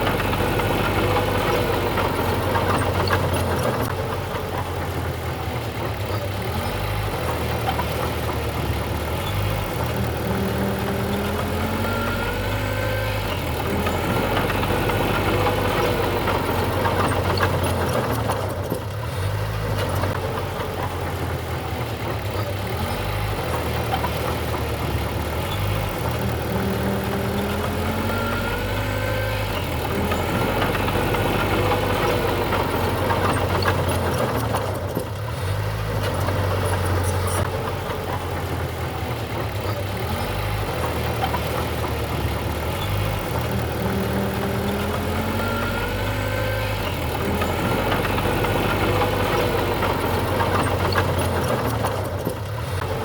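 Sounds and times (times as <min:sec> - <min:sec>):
heavy machinery diesel engine running: 0:00.0 - 0:53.0.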